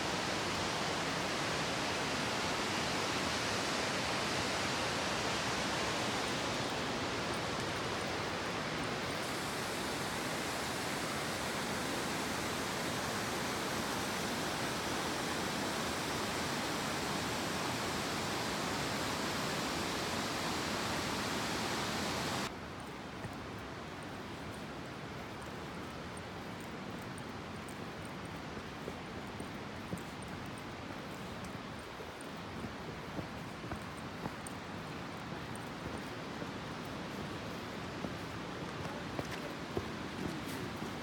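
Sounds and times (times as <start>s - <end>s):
waterfall roaring: 0.0s - 22.5s, 30.1s - 41.0s.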